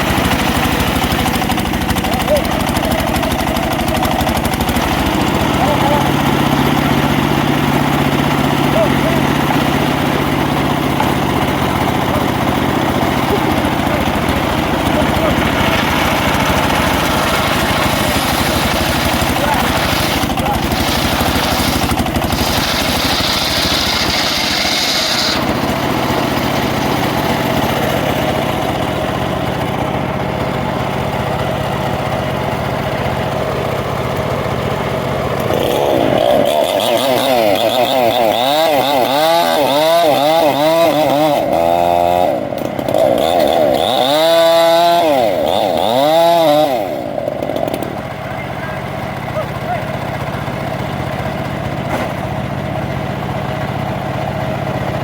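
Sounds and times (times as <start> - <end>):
chainsaw cutting wood: 0.0 - 48.2, 49.1 - 55.0.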